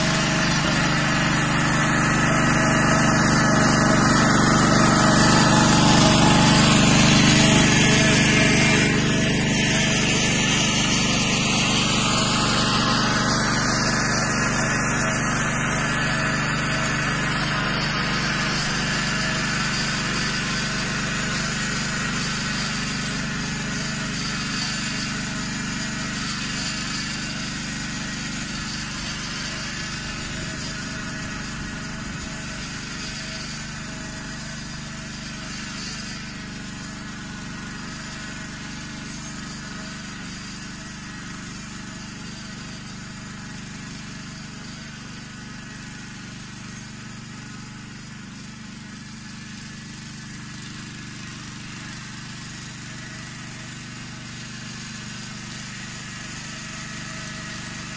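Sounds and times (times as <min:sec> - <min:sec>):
walking tractor engine: 0:00.0 - 0:57.9.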